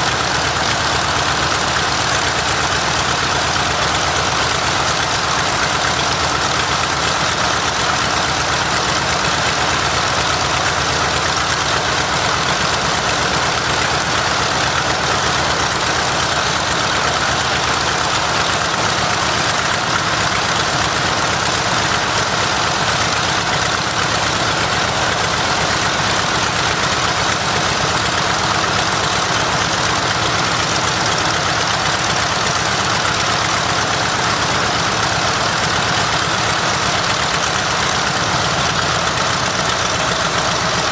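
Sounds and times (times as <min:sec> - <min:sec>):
radial aircraft engine running: 0:00.0 - 0:40.9.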